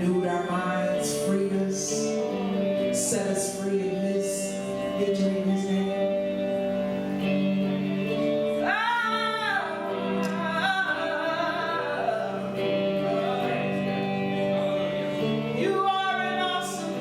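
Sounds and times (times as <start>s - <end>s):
person singing long held notes: 0.0s - 17.0s
sustained chord accompaniment: 0.0s - 17.0s.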